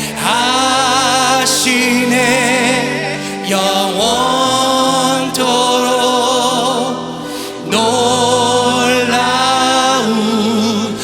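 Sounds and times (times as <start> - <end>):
voices singing worship chorus: 0.0 - 11.0.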